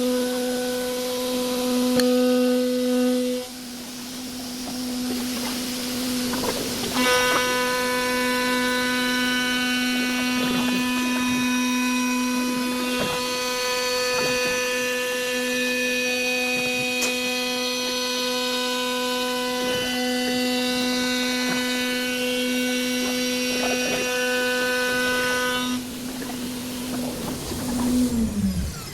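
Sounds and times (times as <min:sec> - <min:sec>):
higher bright whine: 0:00.0 - 0:28.9
machine motor whine: 0:00.0 - 0:28.9.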